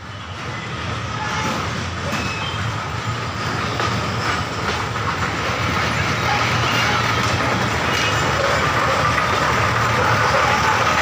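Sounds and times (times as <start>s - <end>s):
miniature train running on track: 0.0s - 11.0s.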